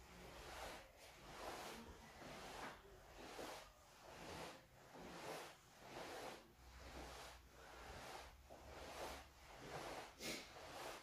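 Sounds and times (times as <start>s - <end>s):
heavy cloth swishing: 0.0s - 11.0s.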